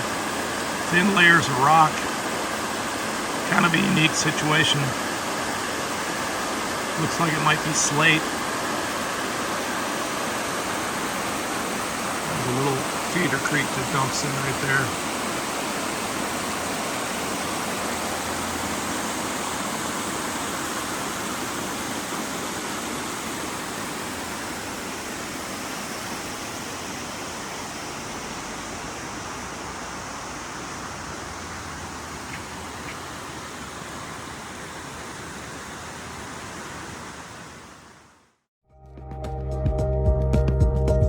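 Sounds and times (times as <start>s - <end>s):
small waterfall splashing: 0.0s - 38.3s.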